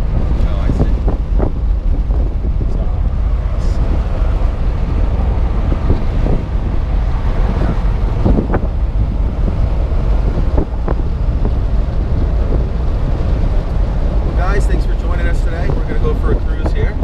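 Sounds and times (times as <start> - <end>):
car engine running: 0.0 - 17.0
road noise: 0.0 - 17.0
wind buffeting microphone: 0.0 - 17.0.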